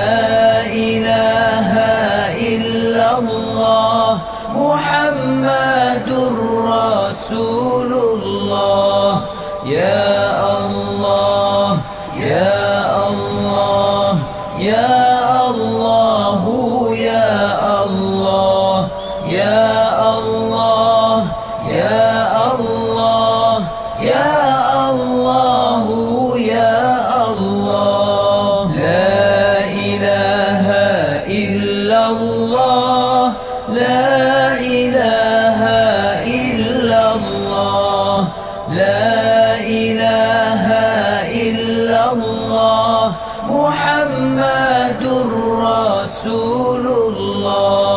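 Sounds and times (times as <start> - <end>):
person chanting melodically: 0.0 - 47.9.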